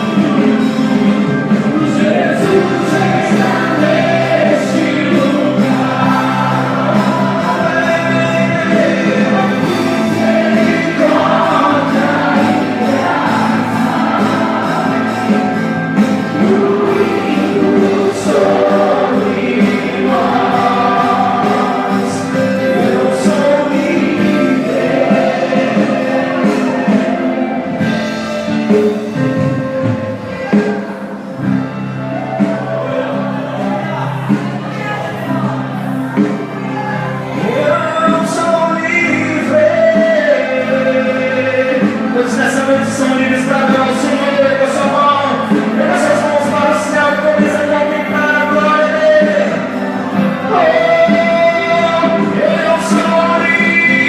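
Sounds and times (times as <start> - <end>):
instrumental accompaniment: 0.0 - 54.0
voices singing gospel song: 0.0 - 54.0.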